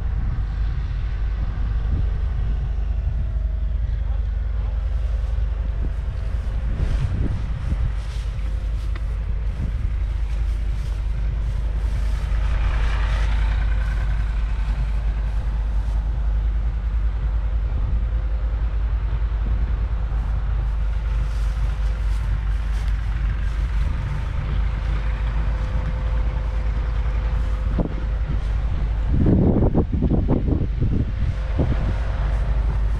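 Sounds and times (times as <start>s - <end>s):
diesel engine idling: 0.0s - 32.9s
wind buffeting microphone: 0.0s - 32.9s.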